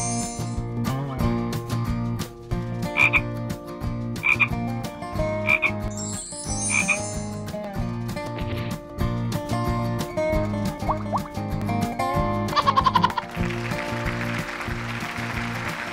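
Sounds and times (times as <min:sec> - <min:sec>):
background music: 0:00.0 - 0:15.9.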